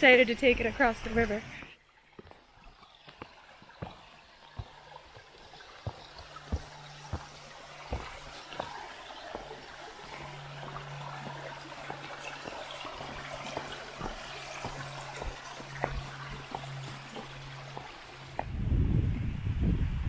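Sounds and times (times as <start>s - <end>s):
stream trickling: 0.0s - 18.6s
boots and poles knocking on logs: 2.1s - 18.5s.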